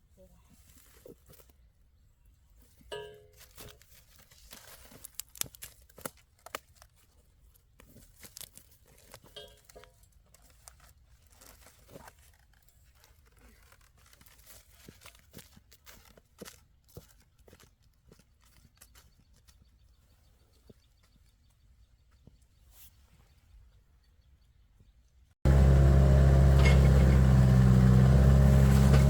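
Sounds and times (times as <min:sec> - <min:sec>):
faint crackling and rustling: 0:00.0 - 0:23.8.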